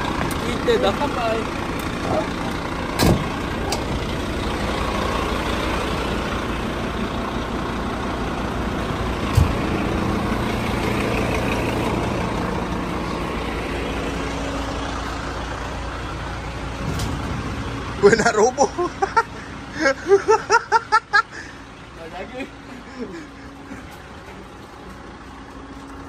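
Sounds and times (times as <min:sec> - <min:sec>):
fire engine idling: 0:00.0 - 0:26.0.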